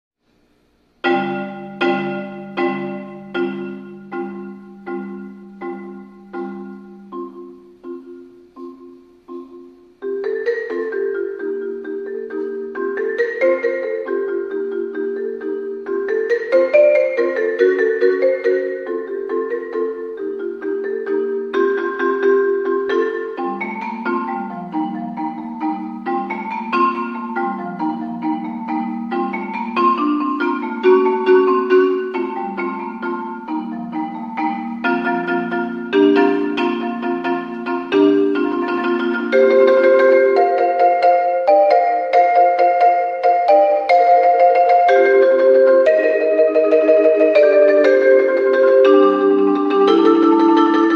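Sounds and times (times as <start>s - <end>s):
marimba playing: 1.0s - 50.9s.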